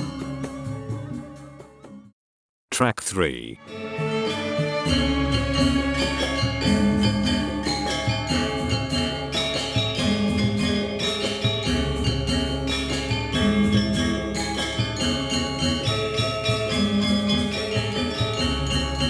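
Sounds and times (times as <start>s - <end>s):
metallophones playing: 3.6s - 19.0s.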